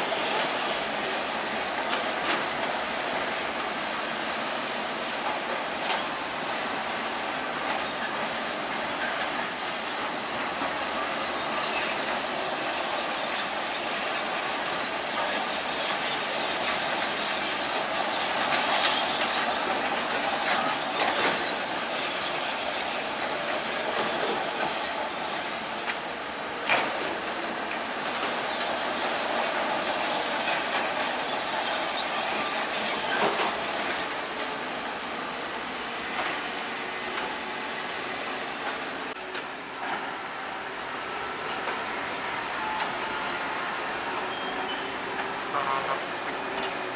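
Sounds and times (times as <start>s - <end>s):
crawler tracks squealing: 0.0s - 46.9s.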